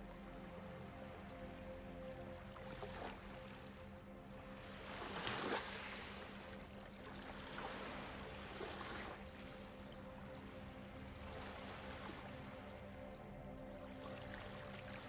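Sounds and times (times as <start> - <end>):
ambient music drone: 0.0 - 15.0
water lapping: 0.0 - 15.0.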